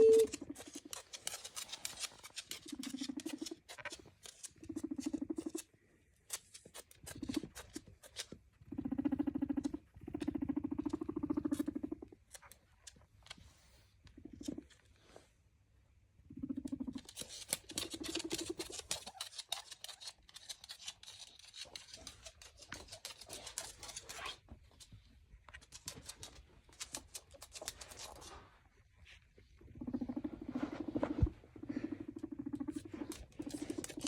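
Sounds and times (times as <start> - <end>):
guinea pig rumbling purr: 0.0 - 34.0.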